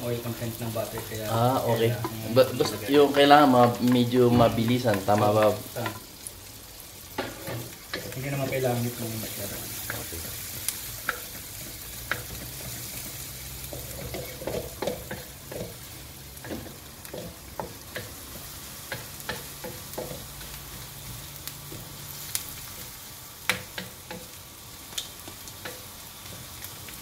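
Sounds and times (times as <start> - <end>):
garlic and onion sizzling: 0.0 - 27.0.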